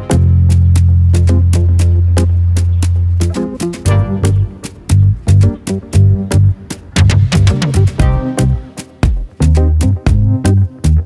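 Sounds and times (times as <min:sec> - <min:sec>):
music with heavy bass and beat: 0:00.0 - 0:11.0.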